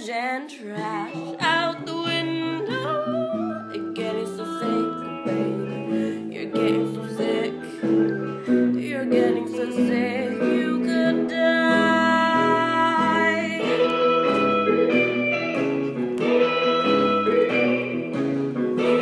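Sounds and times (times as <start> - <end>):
pop backing music: 0.0 - 19.0.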